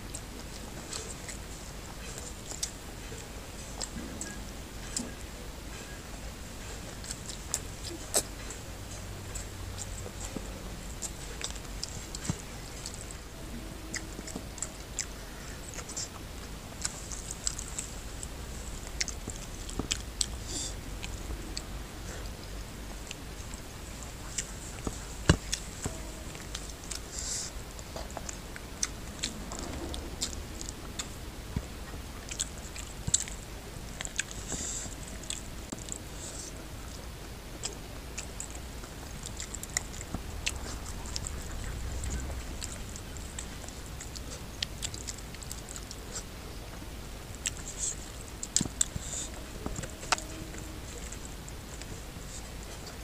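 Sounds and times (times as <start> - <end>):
wet chewing and lip smacks: 0.1 - 53.0.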